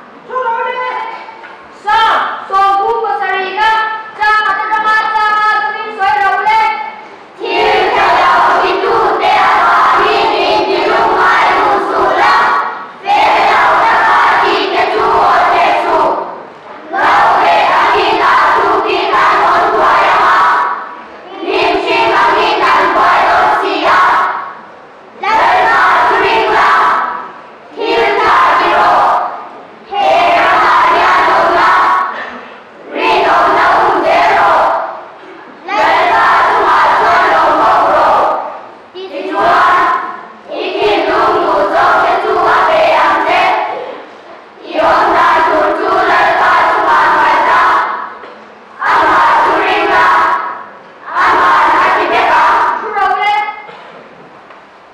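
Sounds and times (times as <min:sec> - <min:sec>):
children reciting in unison: 0:03.2 - 0:24.6, 0:25.2 - 0:53.8.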